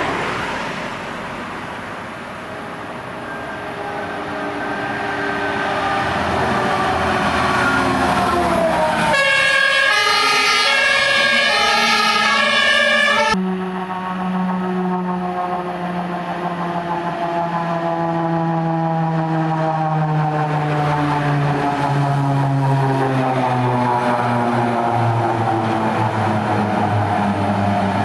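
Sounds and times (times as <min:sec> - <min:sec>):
engine and road noise: 0:00.0 - 0:28.0
two-tone fire engine sirens: 0:02.5 - 0:28.0.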